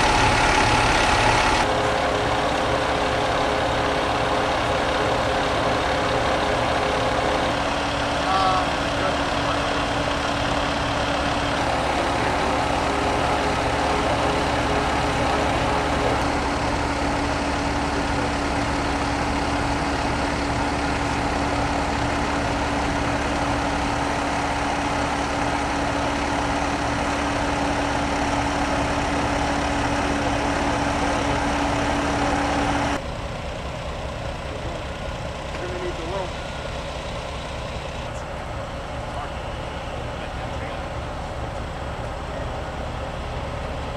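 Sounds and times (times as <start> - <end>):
constant hum: 0.0 - 43.9
diesel engine idling: 0.0 - 43.9.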